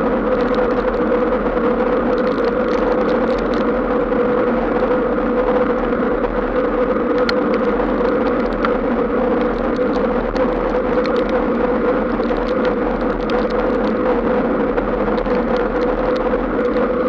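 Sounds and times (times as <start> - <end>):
tyres rolling on wet road: 0.0 - 17.0.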